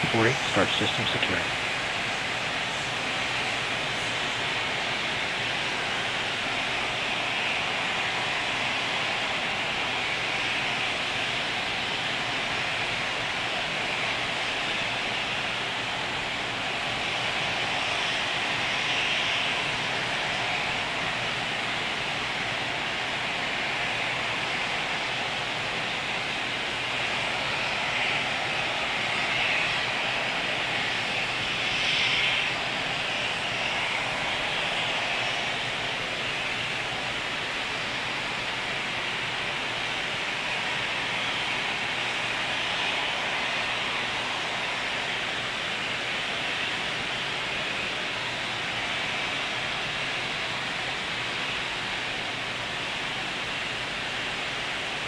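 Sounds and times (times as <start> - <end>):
distant rocket engine roar: 0.0 - 55.0.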